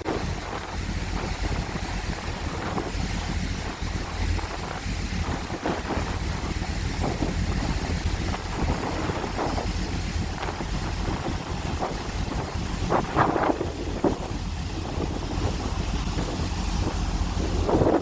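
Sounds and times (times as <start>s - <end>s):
sea rushing: 0.0s - 18.0s
ship engine low rumble: 0.0s - 18.0s
wind buffeting microphone: 0.0s - 18.0s.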